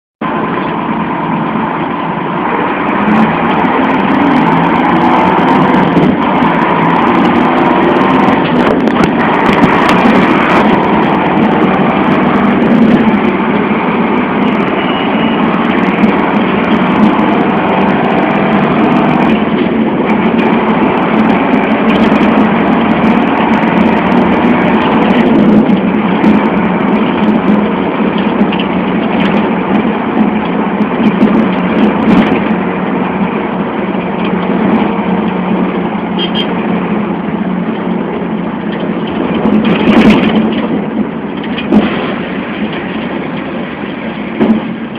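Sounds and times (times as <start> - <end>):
bus engine drone: 0.0 - 44.9
road noise: 0.0 - 44.9.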